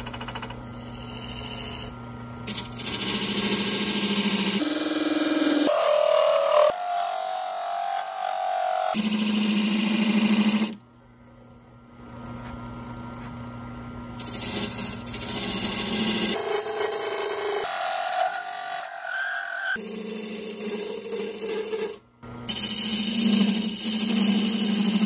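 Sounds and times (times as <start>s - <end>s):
tool cutting spinning wood: 0.0s - 10.8s, 14.2s - 25.0s.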